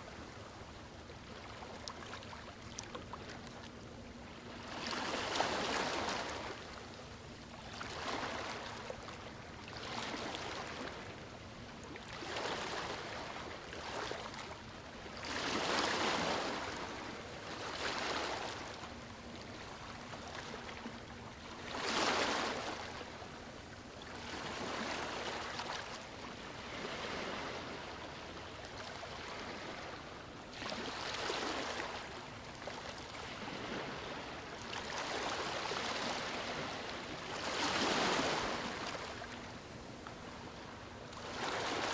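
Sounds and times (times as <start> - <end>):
small waves washing in and out: 0.0 - 41.9.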